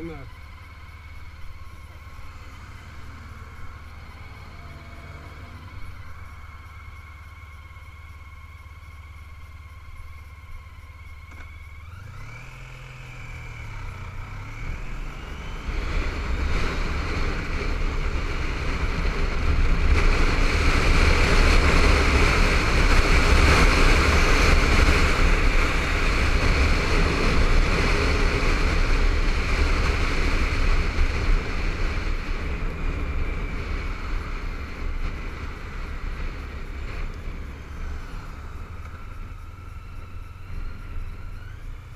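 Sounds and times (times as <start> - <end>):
motorcycle engine accelerating: 0.0 - 41.9
wind and road noise: 0.0 - 41.9.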